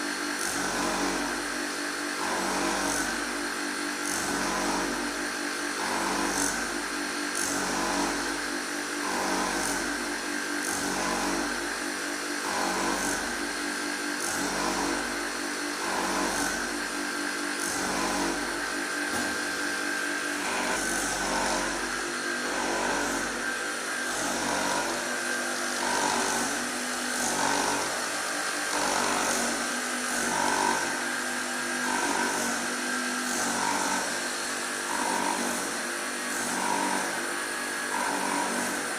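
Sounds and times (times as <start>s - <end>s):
grinding machine running: 0.0s - 38.9s.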